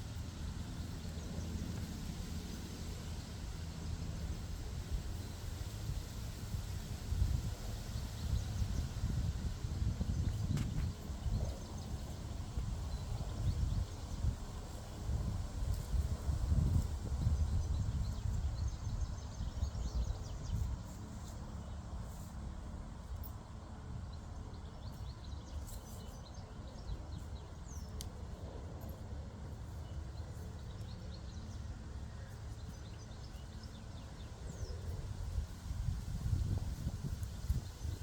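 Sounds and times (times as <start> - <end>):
faint birds chirping: 0.0 - 38.0.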